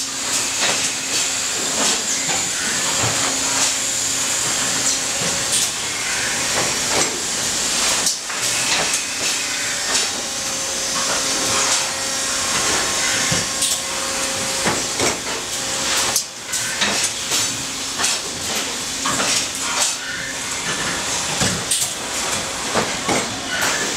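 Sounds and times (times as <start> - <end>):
machinery clicks and clanks: 0.0 - 23.9.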